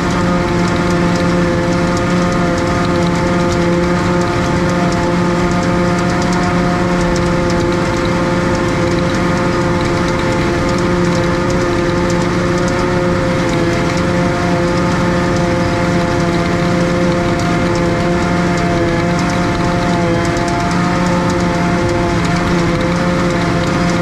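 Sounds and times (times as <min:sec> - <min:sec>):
faint ticks: 0:00.0 - 0:24.0
tractor and harvester droning: 0:00.0 - 0:24.0.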